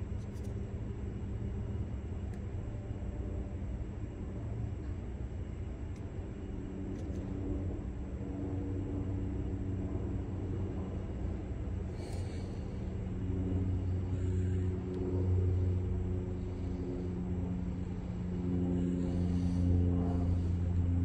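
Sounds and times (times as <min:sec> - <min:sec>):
engine running with low hum: 0:00.0 - 0:21.0.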